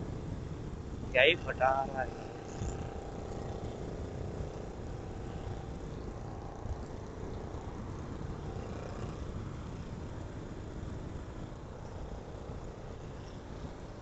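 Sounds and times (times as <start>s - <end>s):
faint motorcycle exhaust: 0.0s - 14.0s
motorcycle engine running: 0.0s - 14.0s
wind buffeting on microphone: 0.0s - 14.0s.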